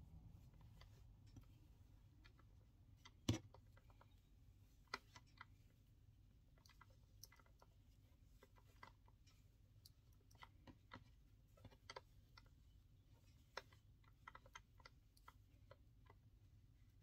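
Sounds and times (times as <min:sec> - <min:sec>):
small clicks and taps: 0:00.4 - 0:16.5.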